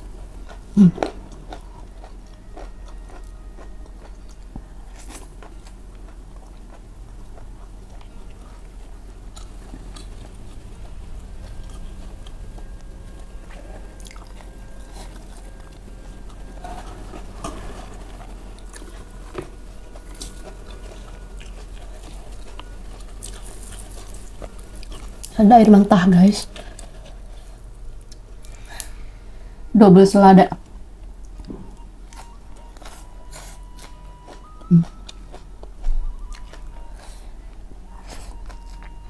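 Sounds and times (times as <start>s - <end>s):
person chewing: 0.0s - 25.4s, 26.5s - 29.1s, 31.1s - 39.0s
steady low hum: 0.0s - 39.0s.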